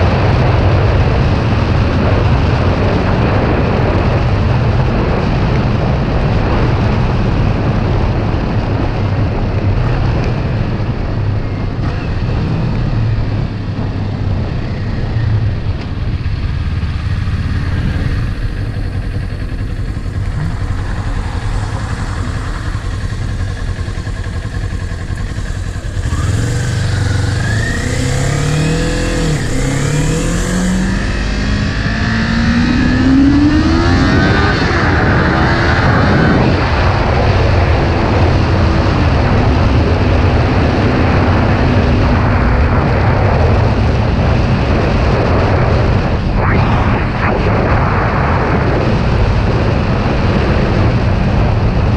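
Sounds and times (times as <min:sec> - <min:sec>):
motorcycle engine accelerating: 0:00.0 - 0:51.9
wind and road noise: 0:00.0 - 0:51.9.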